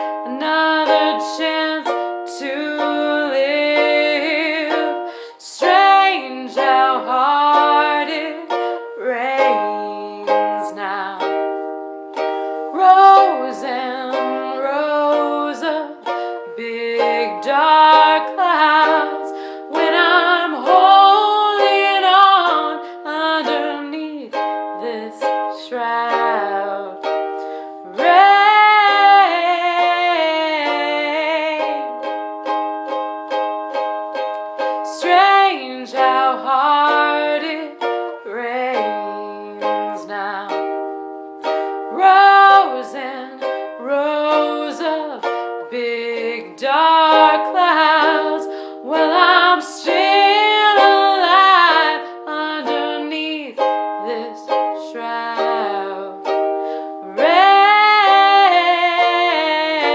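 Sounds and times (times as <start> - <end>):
person singing with vibrato: 0.0 - 33.0, 34.2 - 59.9
ukulele: 0.0 - 59.9.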